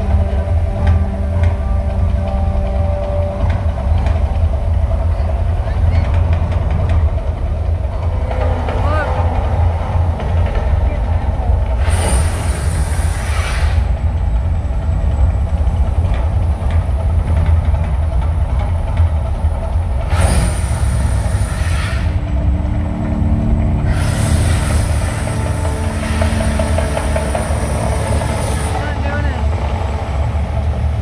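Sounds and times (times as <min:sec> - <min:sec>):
deep continuous rumble: 0:00.0 - 0:31.0
hissing gas flame jets: 0:06.1 - 0:31.0.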